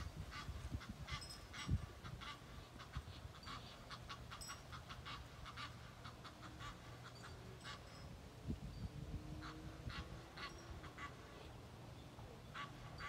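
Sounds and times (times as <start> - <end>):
waterfowl harsh calls: 0.0 - 8.0, 9.4 - 11.5, 12.5 - 13.0.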